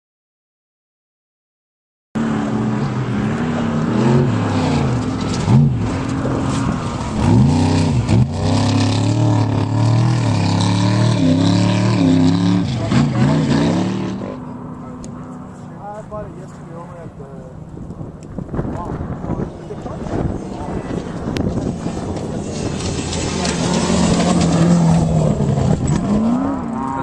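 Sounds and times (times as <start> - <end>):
race vehicle engines revving: 2.2 - 27.0.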